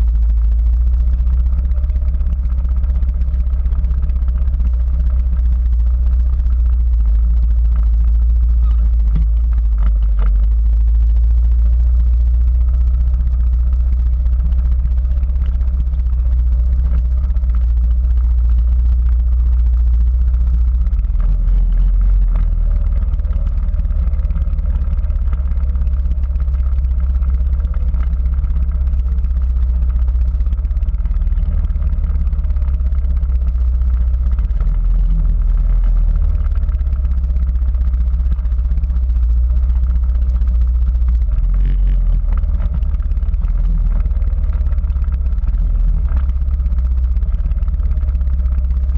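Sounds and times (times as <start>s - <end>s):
quad bike engine rumbling: 0.0s - 48.9s.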